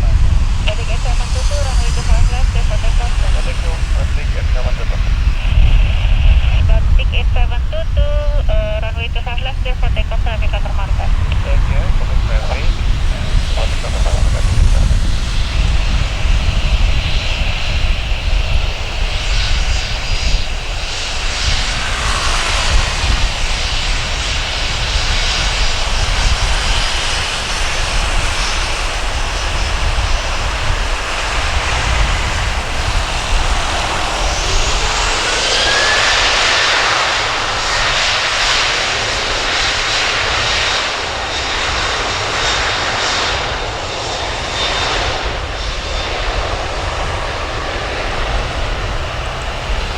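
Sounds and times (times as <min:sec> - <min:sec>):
jet engines at takeoff: 0:00.0 - 0:49.9
jet hiss: 0:00.0 - 0:49.9.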